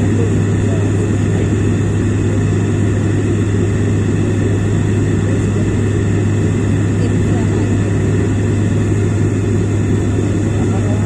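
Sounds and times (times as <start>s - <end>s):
engine and airflow rush: 0.0s - 11.0s
low propeller drone: 0.0s - 11.0s.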